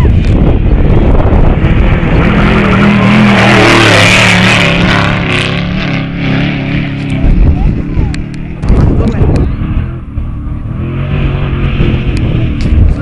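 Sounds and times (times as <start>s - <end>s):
race truck engine running hard: 0.0s - 13.0s
rush of noise: 0.0s - 13.0s.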